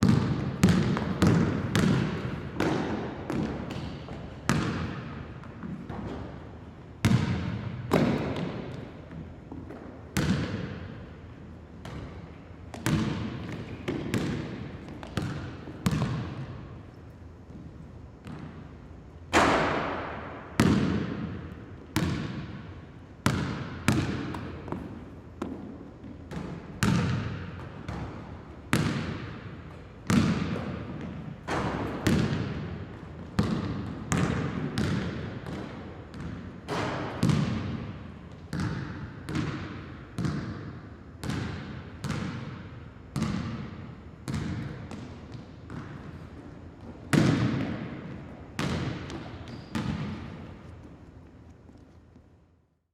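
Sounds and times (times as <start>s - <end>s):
basketball bouncing on hard floor: 0.0s - 6.3s, 7.0s - 10.9s, 11.8s - 16.5s, 19.3s - 22.6s, 23.2s - 42.6s, 43.2s - 46.1s, 46.8s - 50.5s.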